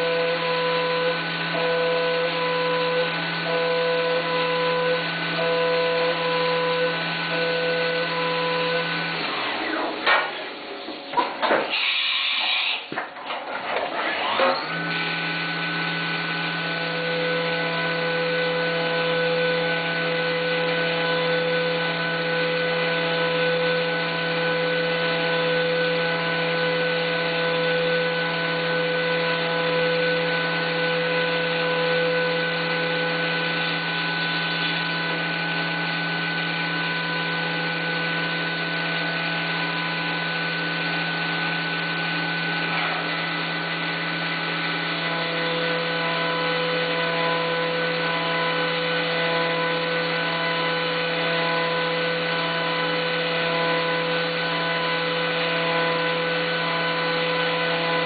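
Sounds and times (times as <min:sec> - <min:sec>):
milling machine cutter whine: 0:00.0 - 0:13.1, 0:13.7 - 0:58.0.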